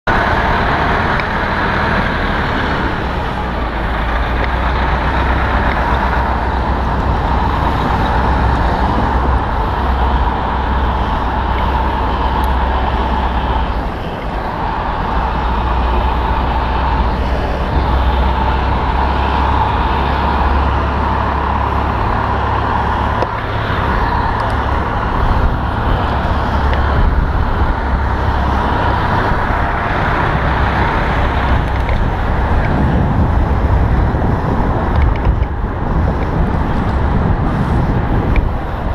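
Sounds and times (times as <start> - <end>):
street traffic rumble: 0.0 - 38.9.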